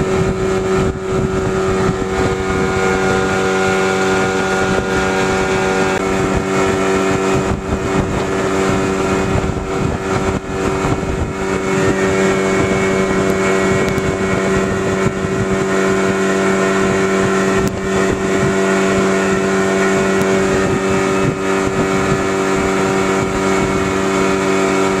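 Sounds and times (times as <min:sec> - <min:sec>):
small boat motor droning: 0:00.0 - 0:25.0.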